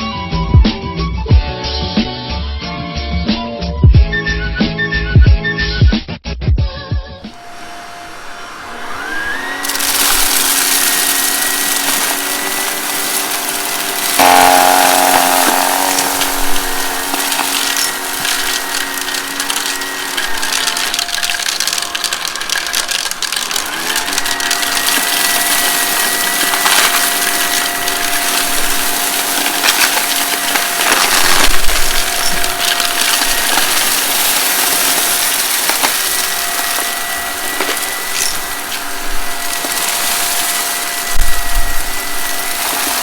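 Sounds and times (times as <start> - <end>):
debris crackling in vacuum: 7.2 - 43.0
vacuum cleaner motor whine: 7.2 - 43.0.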